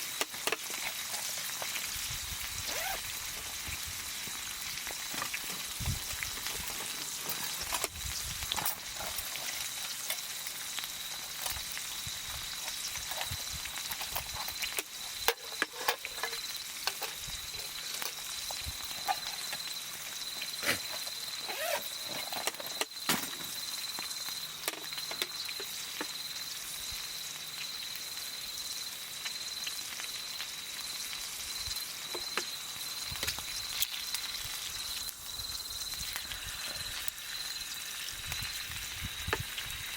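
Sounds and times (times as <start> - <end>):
campfire crackling and popping: 0.0 - 26.7, 29.2 - 39.9.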